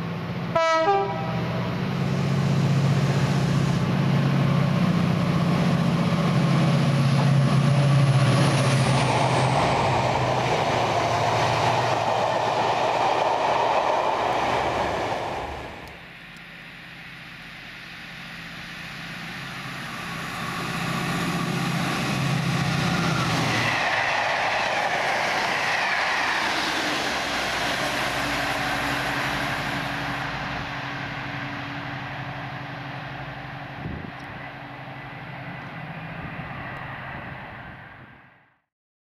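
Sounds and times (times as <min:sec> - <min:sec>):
locomotive engine hum: 0:00.0 - 0:38.2
train wheels rushing and rumbling: 0:00.0 - 0:38.2.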